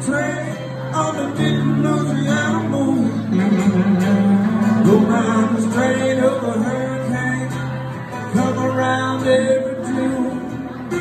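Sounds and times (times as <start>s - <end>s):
acoustic guitar strumming: 0.0s - 11.0s
second guitar playing lead: 0.0s - 11.0s.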